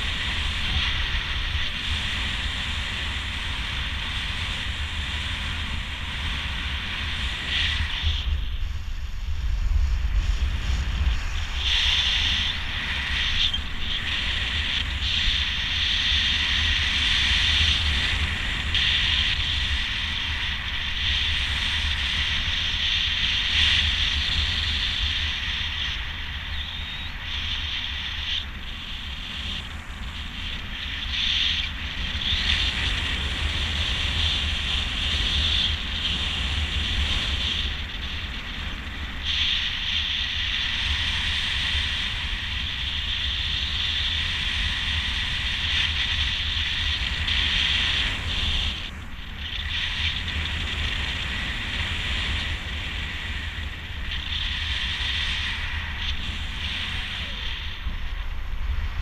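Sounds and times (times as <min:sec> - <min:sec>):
wind buffeting microphone: 0:00.0 - 0:59.0
wind hiss: 0:00.0 - 0:59.0.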